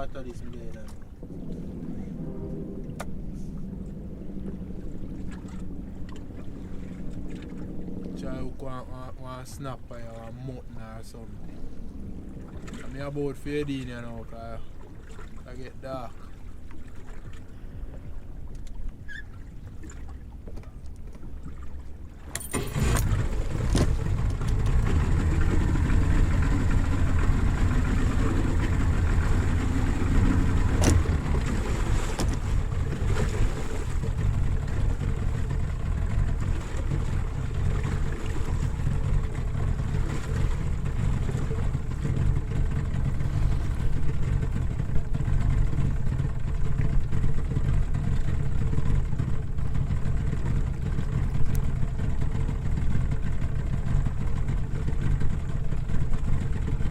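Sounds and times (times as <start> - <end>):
outboard motor rumbling: 0.0 - 56.9
water noise: 0.0 - 56.9
wind: 0.0 - 56.9.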